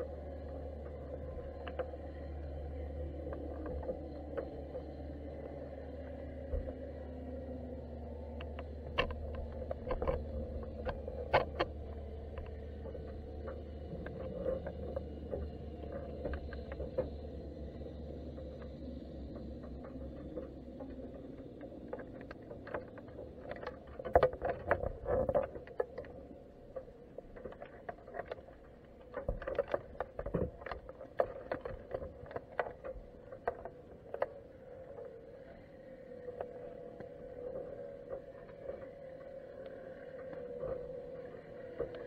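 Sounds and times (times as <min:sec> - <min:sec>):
steady low hum: 0:00.0 - 0:42.0
underwater clicking and knocking: 0:00.0 - 0:42.0.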